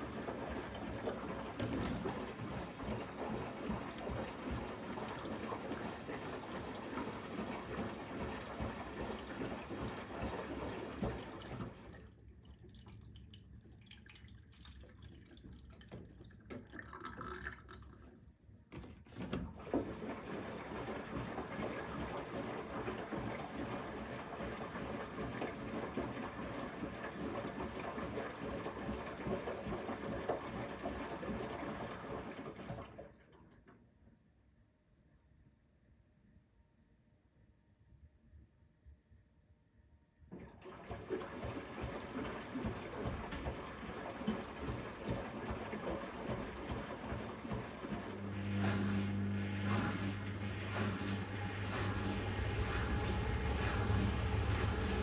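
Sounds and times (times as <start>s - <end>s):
washing machine water inflow: 0.0s - 33.7s, 40.3s - 55.0s.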